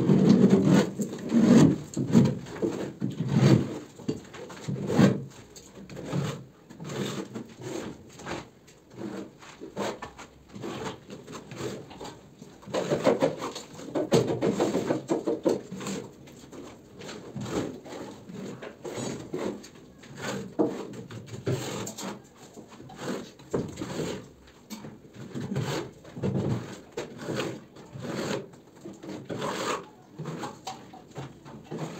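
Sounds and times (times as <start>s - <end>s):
hand tool scraping plaster: 0.0s - 31.9s.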